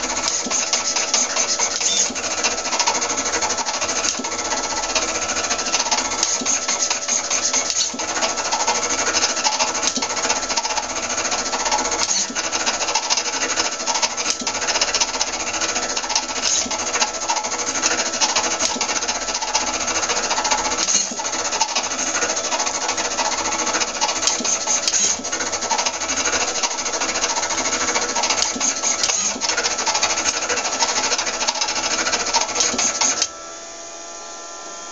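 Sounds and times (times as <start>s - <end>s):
pen plotter rattling and buzzing: 0.0s - 33.4s.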